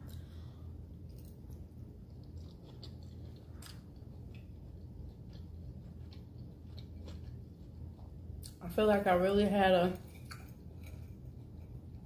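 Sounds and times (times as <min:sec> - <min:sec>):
person chewing food: 0:00.0 - 0:08.6, 0:10.0 - 0:12.0
low steady hum: 0:00.0 - 0:12.0.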